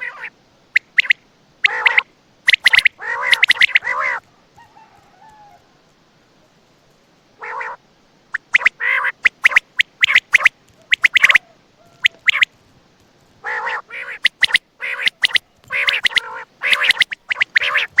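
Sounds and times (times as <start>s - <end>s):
quail calling: 0.0s - 5.7s, 7.4s - 12.5s, 13.4s - 18.0s.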